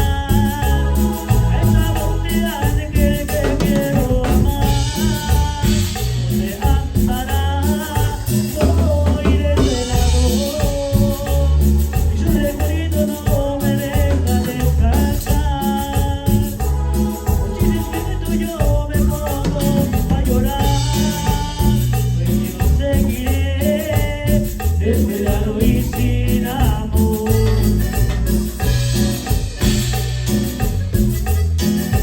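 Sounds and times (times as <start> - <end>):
bass line: 0.0 - 32.0
drum kit: 0.0 - 32.0
keyboard melody: 0.0 - 32.0
live latin band playing: 0.0 - 32.0
shaker percussion: 0.0 - 32.0.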